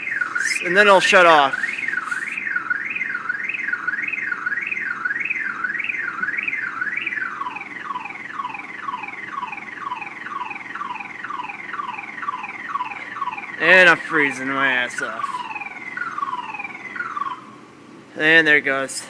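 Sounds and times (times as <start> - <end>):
car alarm siren warbling: 0.0 - 17.9.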